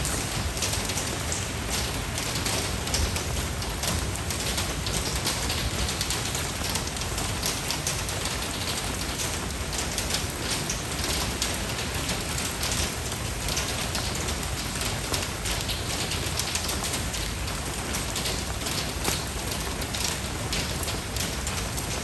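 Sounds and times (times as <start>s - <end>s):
rain pattering on a surface: 0.0s - 22.0s.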